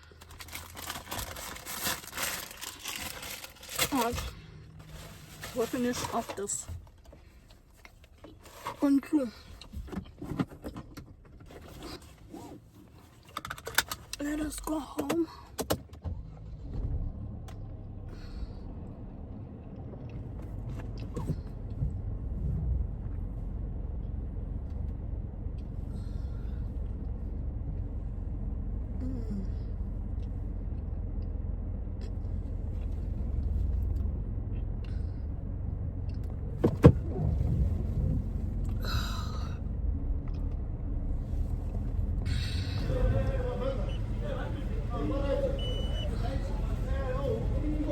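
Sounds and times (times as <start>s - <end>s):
car engine rumble: 0.0s - 47.9s
road noise: 0.0s - 47.9s.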